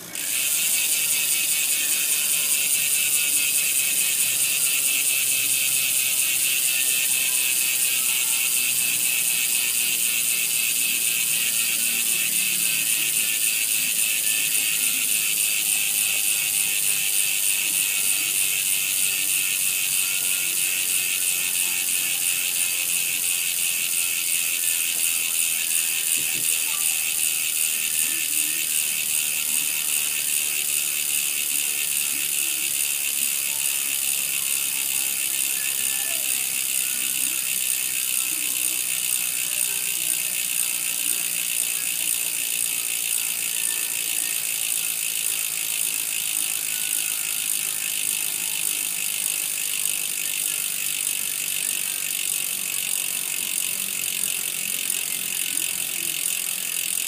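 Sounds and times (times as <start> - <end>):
bike hub pawls ratcheting: 0.0 - 57.0.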